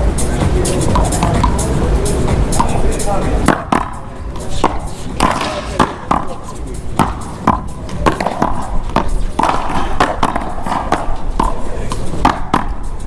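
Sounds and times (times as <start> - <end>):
paddles striking rubber ball: 0.0 - 12.9.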